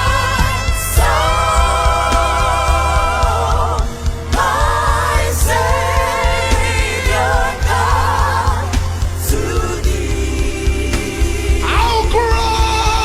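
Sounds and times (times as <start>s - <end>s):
band with heavy bass: 0.0s - 13.0s.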